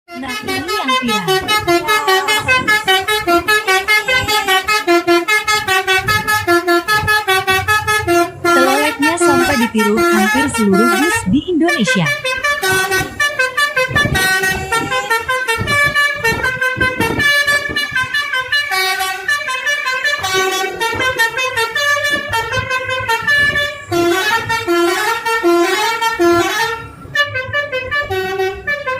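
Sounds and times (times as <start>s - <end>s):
multi-tone bus horn melody: 0.1s - 28.9s.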